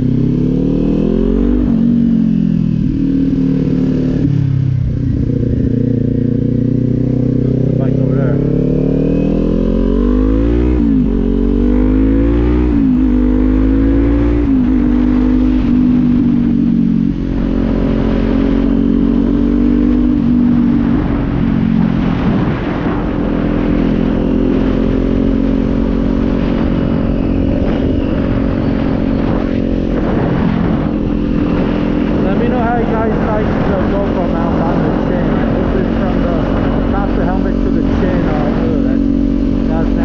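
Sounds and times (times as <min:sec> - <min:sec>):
low wind rumble: 0:00.0 - 0:40.0
motorcycle engine accelerating: 0:00.0 - 0:40.0.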